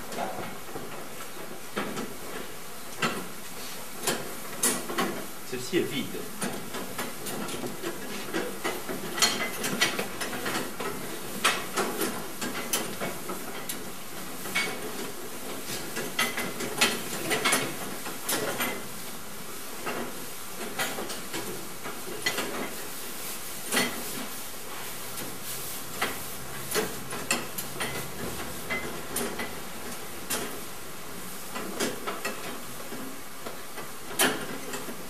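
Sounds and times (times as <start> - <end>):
steady hiss: 0.0 - 35.0.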